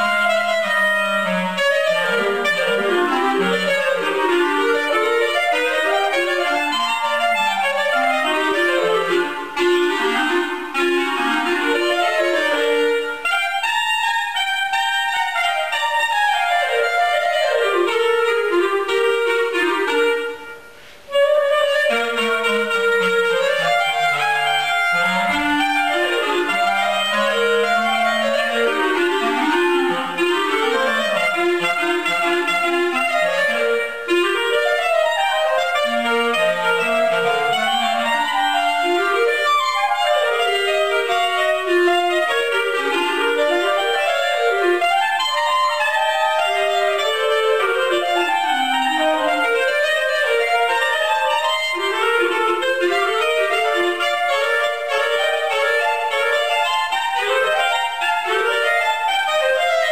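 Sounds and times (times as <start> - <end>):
clarinet duet: 0.0 - 59.9.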